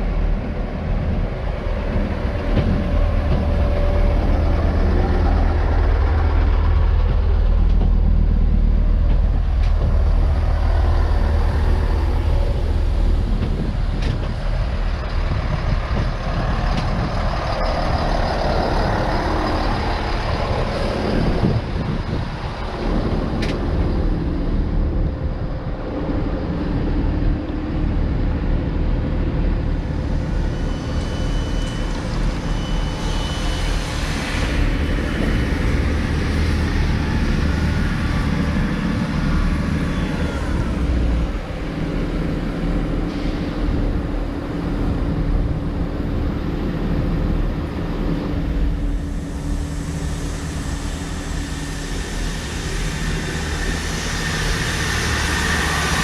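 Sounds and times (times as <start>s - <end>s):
diesel train engine humming: 0.0s - 56.0s.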